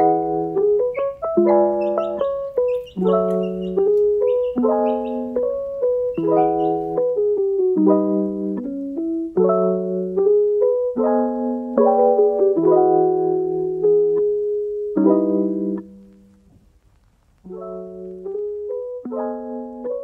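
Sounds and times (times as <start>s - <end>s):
piano chords: 0.0s - 16.4s, 17.5s - 20.0s.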